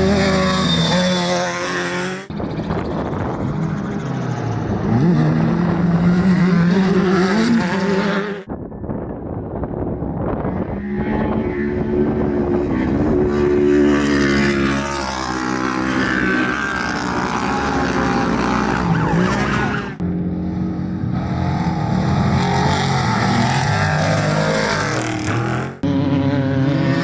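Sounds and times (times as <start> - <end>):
race engines at high revs: 0.0 - 8.5, 10.1 - 27.0.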